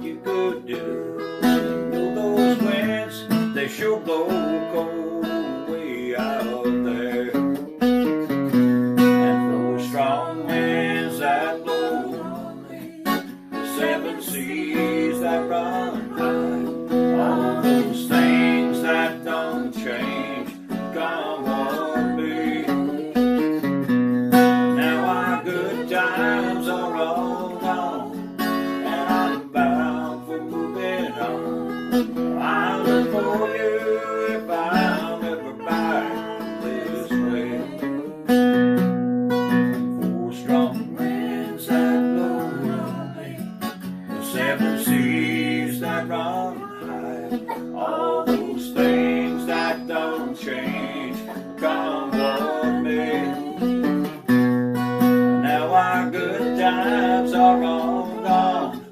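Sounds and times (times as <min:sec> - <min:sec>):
acoustic guitar strumming: 0:00.0 - 0:58.9.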